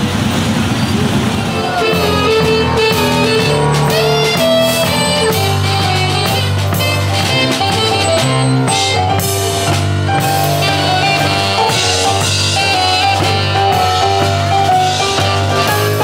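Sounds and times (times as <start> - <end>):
drum kit beat: 1.3 - 16.0
held melody notes: 1.4 - 14.7.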